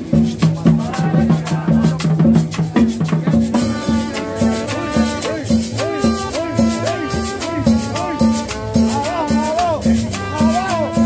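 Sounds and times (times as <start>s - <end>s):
cumbia band playing: 0.0s - 11.0s
drums and shakers beat: 0.0s - 11.0s.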